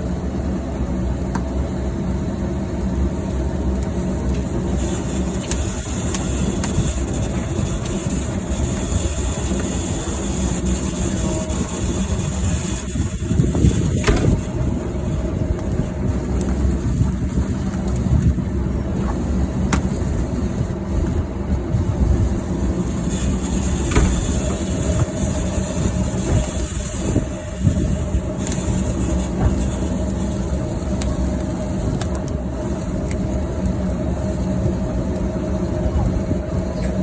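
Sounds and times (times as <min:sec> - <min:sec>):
fire rumbling: 0:00.0 - 0:37.0
wood crackling: 0:00.0 - 0:37.0.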